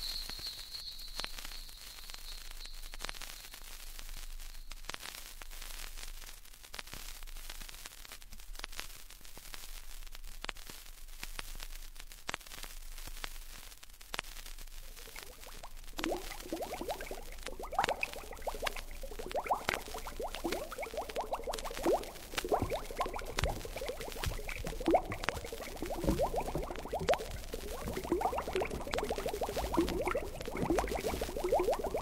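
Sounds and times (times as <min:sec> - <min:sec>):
vinyl surface hiss: 0:03.4 - 0:32.0.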